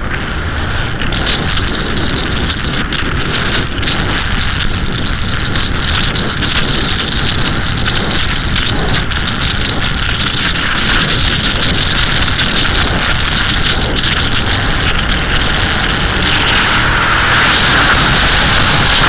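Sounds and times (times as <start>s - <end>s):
motorcycle engine: 0.0s - 19.0s
road noise: 0.0s - 19.0s
wind over microphone: 0.0s - 19.0s.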